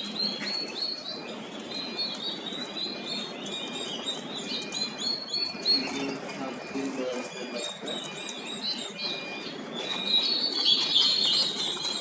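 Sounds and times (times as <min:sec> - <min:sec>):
turkey poults peeping: 0:00.0 - 0:12.0.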